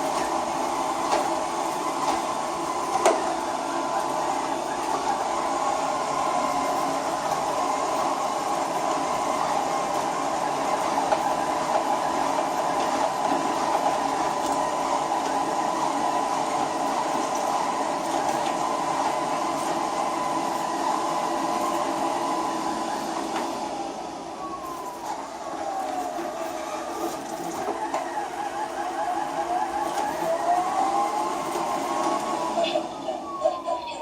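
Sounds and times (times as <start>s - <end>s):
robot vacuum whirring: 0.0s - 34.0s.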